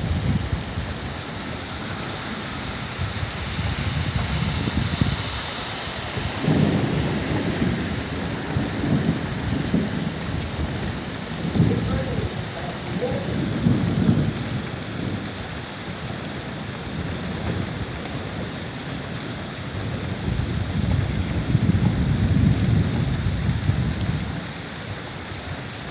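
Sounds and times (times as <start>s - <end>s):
thunder rumbling: 0.0s - 25.1s
heavy rain: 0.0s - 25.9s.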